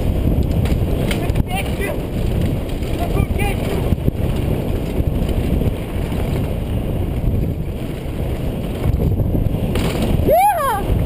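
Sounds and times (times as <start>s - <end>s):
mountain bike rumbling over dirt: 0.0s - 11.0s
wind buffeting microphone: 0.0s - 11.0s.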